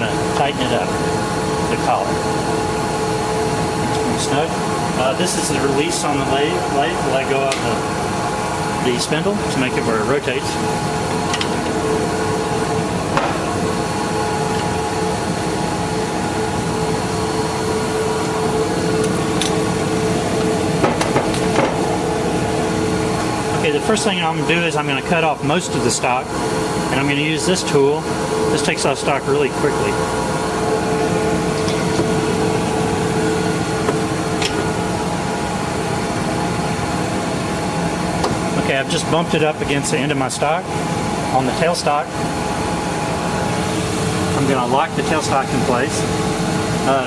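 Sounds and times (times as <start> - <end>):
metal lathe humming: 0.0 - 38.6.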